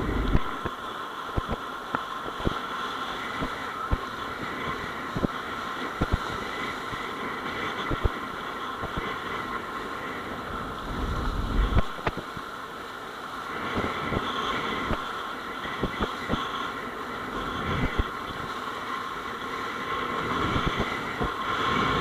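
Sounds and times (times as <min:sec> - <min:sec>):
board skimming choppy water: 0:00.0 - 0:22.0
wind rushing over microphone: 0:00.0 - 0:22.0.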